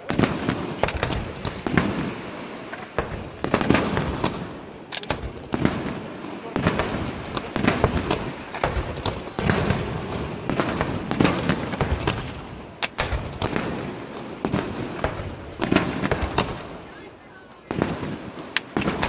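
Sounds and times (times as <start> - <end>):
firework shells bursting: 0.0 - 16.6
crackle of firework bursts: 0.0 - 17.0, 17.6 - 19.0.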